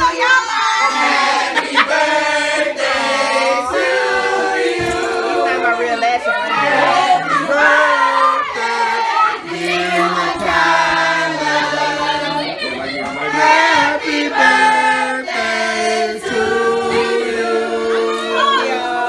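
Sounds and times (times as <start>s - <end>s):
voices singing unaccompanied: 0.0s - 19.0s.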